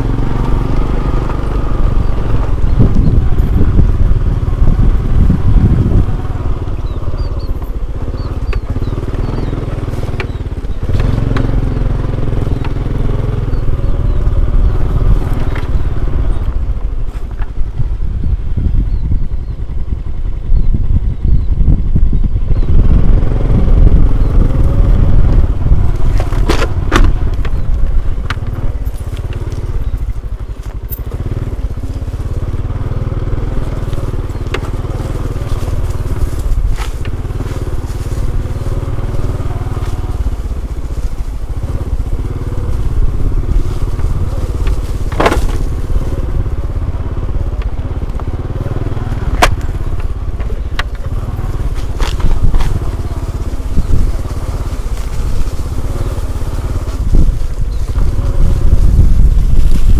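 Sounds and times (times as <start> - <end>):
heavy low rumble: 0.0 - 59.9
small engine running: 0.0 - 59.9.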